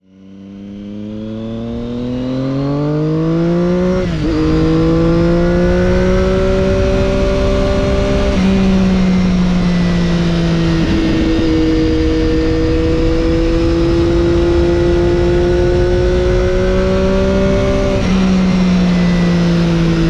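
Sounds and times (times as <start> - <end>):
motorcycle engine accelerating: 0.0 - 20.0
wind rumble: 3.3 - 20.0.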